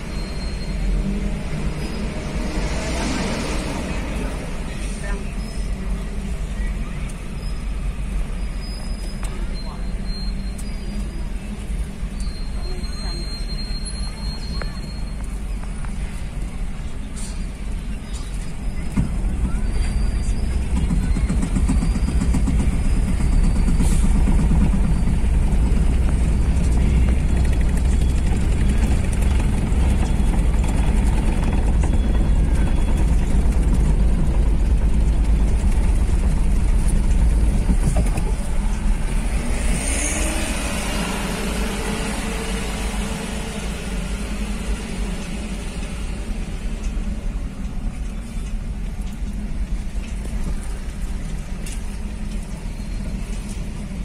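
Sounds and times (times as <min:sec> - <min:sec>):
vehicle engines rumbling: 0:00.0 - 0:54.0.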